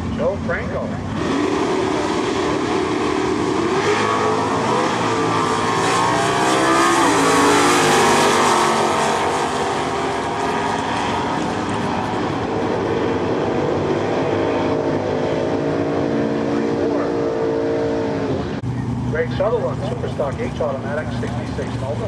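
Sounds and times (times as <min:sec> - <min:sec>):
drag cars accelerating hard: 0:00.0 - 0:22.0.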